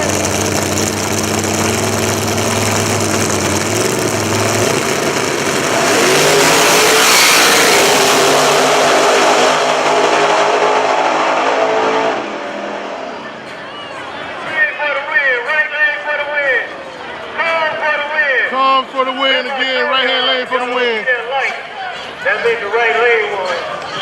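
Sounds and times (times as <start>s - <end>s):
drag racing car engines: 0.0s - 24.0s.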